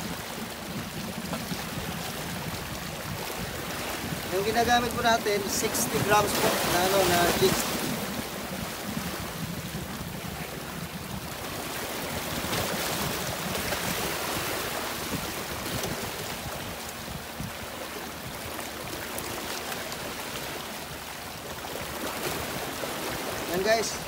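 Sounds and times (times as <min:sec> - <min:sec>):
sea surf washing on shore: 0:00.0 - 0:24.0.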